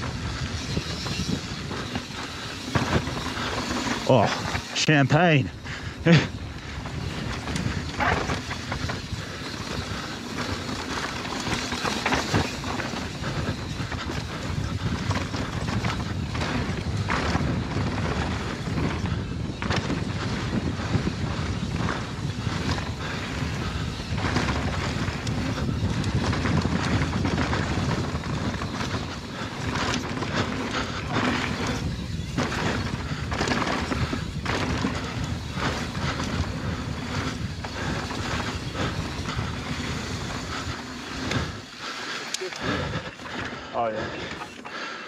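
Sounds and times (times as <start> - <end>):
wind buffeting microphone: 0.0 - 44.9
bike rattling over bumps: 0.0 - 45.0
tyres rolling on dirt: 0.0 - 45.0.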